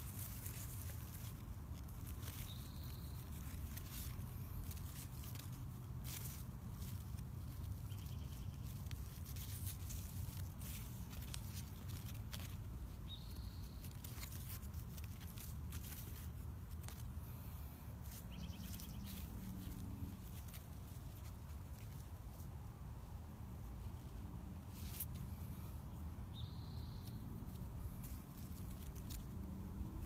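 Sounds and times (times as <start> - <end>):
leaves rustling: 0.0 - 30.0.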